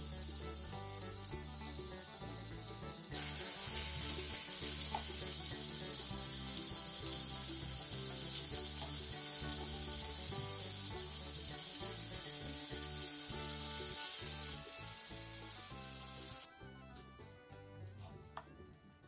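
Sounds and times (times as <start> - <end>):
chicken sizzling in a frying pan: 0.0 - 16.5
background music: 0.0 - 19.0.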